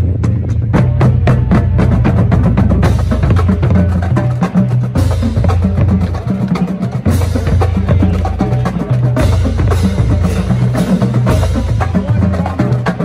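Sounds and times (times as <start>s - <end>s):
drumline playing fast cadence: 0.0s - 13.0s.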